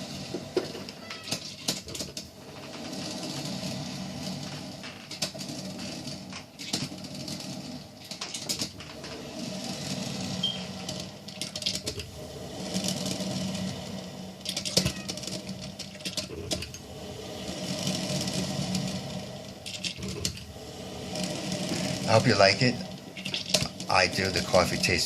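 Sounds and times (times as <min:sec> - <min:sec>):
low hum: 0:02.1 - 0:25.0.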